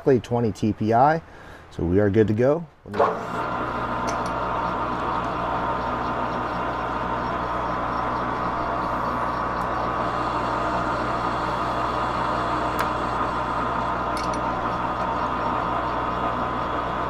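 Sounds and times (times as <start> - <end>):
metal lathe humming and whining: 3.0 - 17.0.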